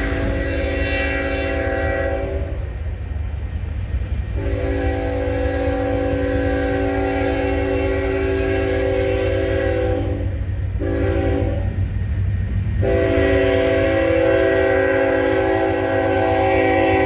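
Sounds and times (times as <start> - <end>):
locomotive air horn: 0.0 - 2.7, 4.4 - 11.8, 12.8 - 17.0
train rumbling past: 0.0 - 17.0.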